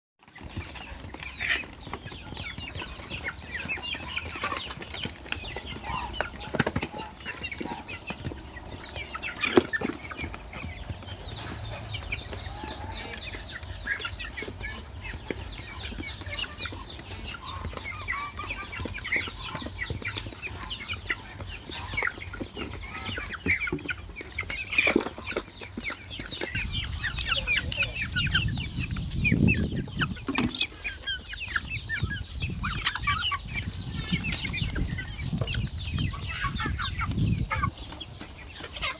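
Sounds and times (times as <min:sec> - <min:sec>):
chickens clucking: 0:00.2 - 0:38.9.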